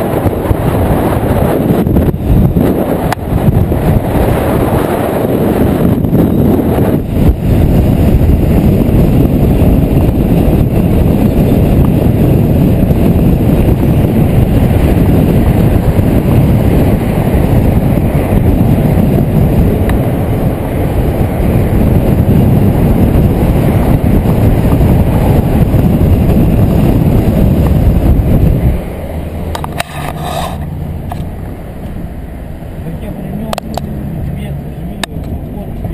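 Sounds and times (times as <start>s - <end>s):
road noise: 0.0s - 35.9s
wind rumble: 0.0s - 35.9s.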